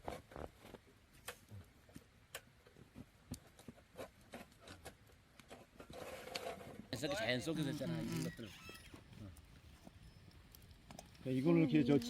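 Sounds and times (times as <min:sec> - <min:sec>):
wood bonfire crackling: 0:00.0 - 0:12.0.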